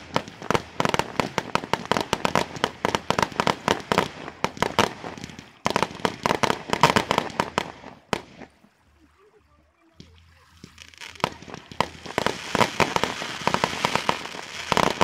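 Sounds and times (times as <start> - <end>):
firework shells bursting: 0.0 - 8.8, 9.9 - 15.0.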